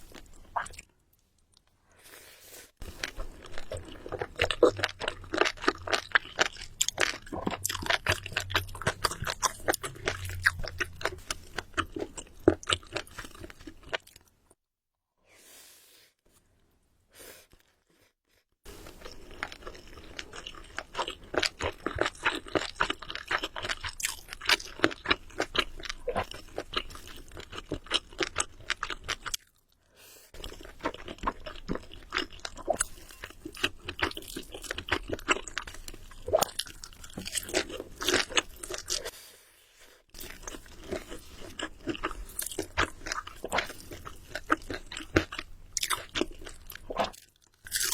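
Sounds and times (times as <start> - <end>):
person chewing crunchy food: 0.0 - 14.3, 18.7 - 29.7, 30.3 - 39.2, 39.8 - 47.9.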